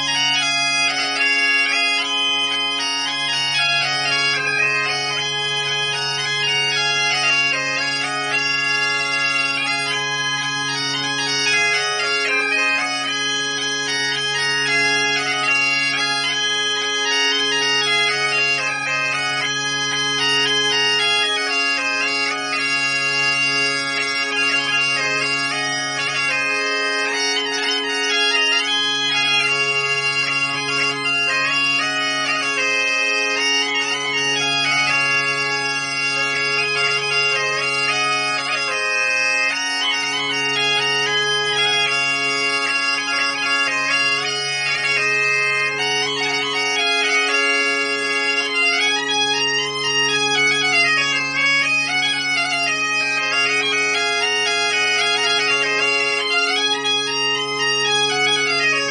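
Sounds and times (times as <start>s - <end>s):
bagpipes playing a waltz: 0.0s - 58.9s.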